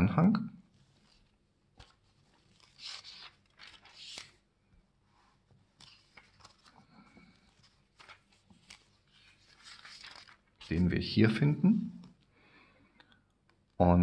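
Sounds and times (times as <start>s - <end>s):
thin pages being turned: 0.7s - 12.3s.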